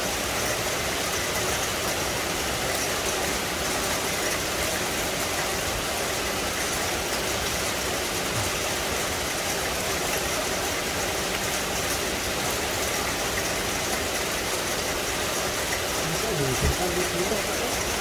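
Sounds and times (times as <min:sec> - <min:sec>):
steady rain in forest: 0:00.0 - 0:18.0.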